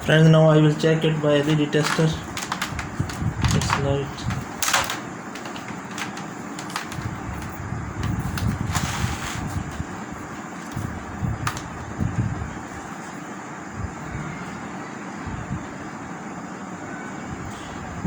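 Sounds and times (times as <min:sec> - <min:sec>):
low rumble and hiss: 0:00.0 - 0:18.0.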